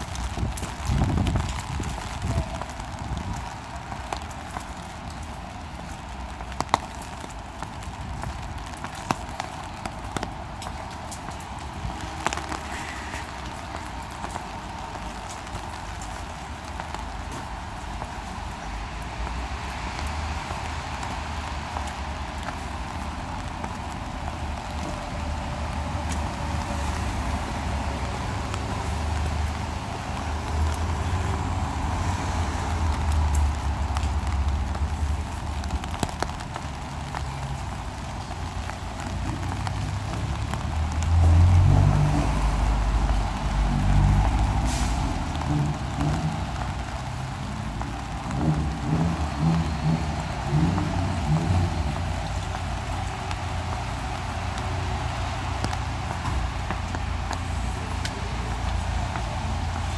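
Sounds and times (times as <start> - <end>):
footsteps on wet paving: 0.0 - 59.9
street noise rumble: 0.0 - 59.9.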